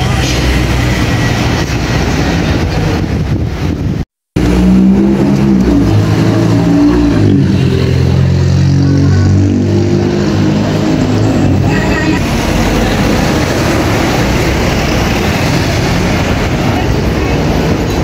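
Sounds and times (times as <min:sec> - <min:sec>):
bus engine droning: 0:00.0 - 0:18.0.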